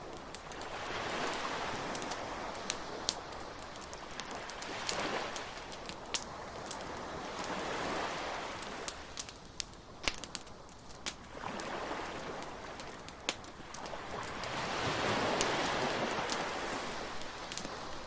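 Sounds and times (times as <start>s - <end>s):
bonfire crackling and popping: 0.0s - 18.0s
waves washing on shore: 0.0s - 18.0s.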